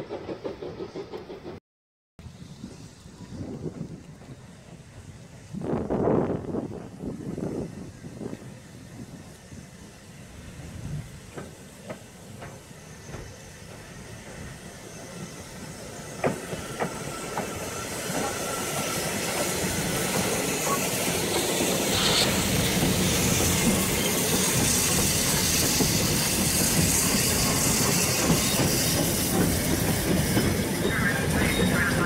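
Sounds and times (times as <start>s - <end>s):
steam locomotive hissing steam: 2.2s - 32.0s.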